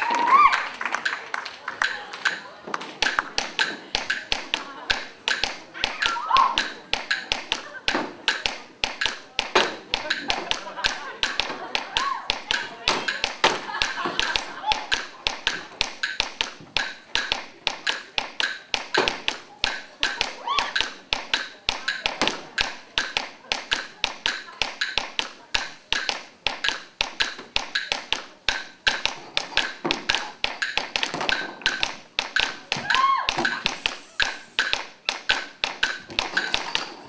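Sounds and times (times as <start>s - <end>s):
steady sharp taps: 0.8s - 37.0s.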